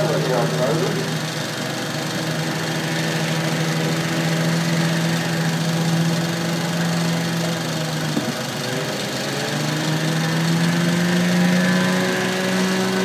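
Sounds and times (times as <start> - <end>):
diesel truck engine humming: 0.0 - 13.0.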